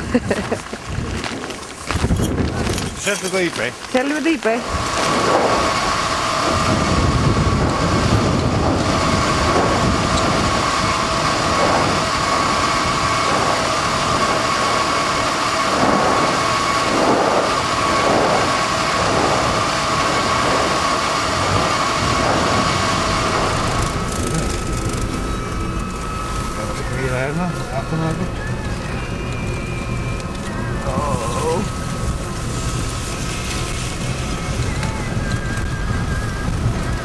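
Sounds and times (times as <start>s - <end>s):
lava fountains roaring: 0.0s - 37.0s
steady high whine: 0.0s - 37.0s.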